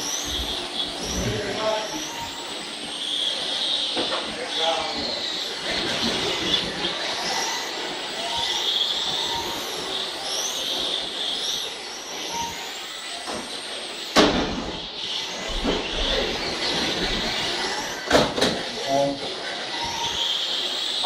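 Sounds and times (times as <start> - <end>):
model truck motors whining: 0.0 - 21.0.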